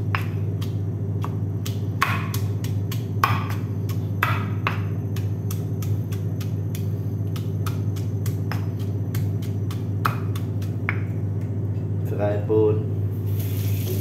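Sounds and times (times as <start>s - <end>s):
pestle pounding in stone mortar: 0.0s - 11.6s
steady low hum: 0.0s - 14.0s.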